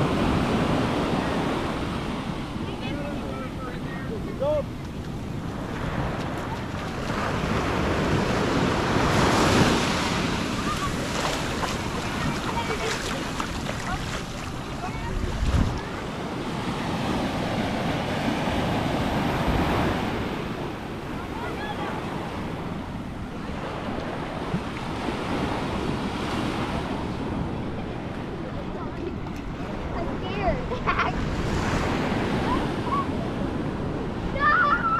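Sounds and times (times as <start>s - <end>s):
surf washing up sand: 0.0s - 34.9s
wind on microphone: 0.0s - 34.9s.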